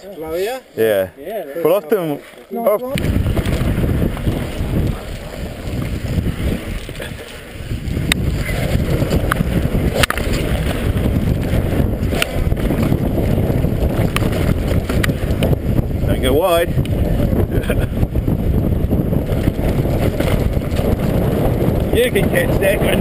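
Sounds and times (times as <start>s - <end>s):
wind buffeting microphone: 2.9s - 23.0s
bike tyres rumbling on dirt: 3.0s - 23.0s.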